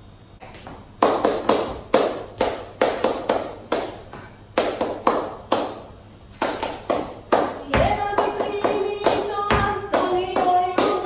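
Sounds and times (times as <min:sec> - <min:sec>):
flamenco footwork on hard floor: 0:00.4 - 0:11.0.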